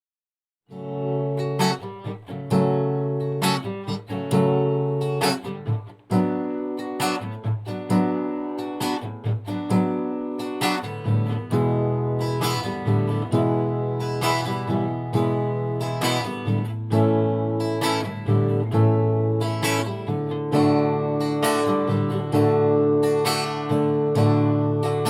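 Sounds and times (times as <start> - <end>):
acoustic guitar strumming: 0.7 - 25.0.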